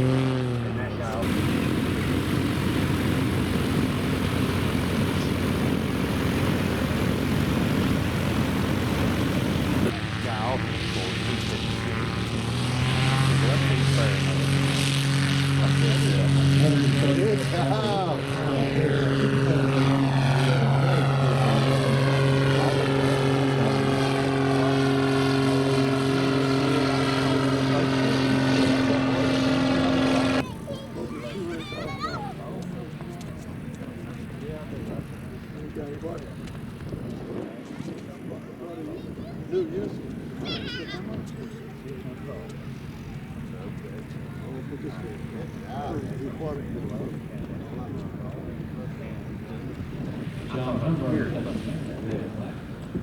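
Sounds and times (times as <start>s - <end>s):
light aircraft engine and propeller: 0.0s - 53.0s.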